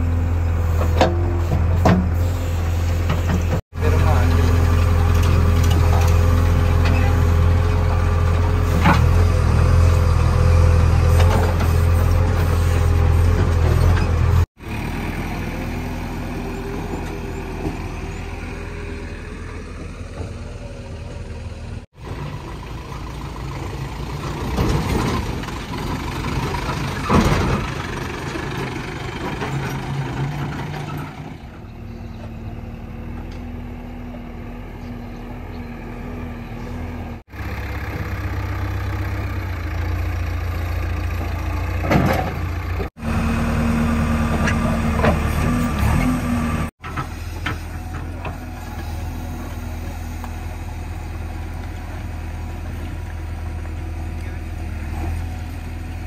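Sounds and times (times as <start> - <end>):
diesel engine humming close by: 0.0 - 56.0
heavy diesel engines running: 0.0 - 56.0.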